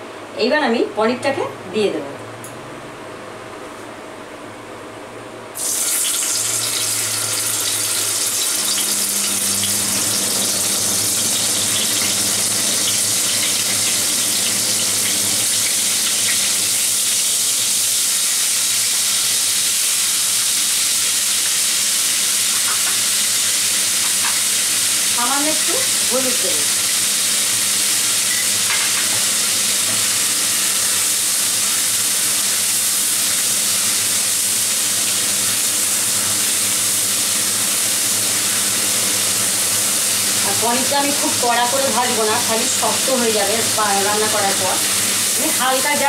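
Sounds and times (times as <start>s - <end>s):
food sizzling in hot oil: 5.6s - 46.0s.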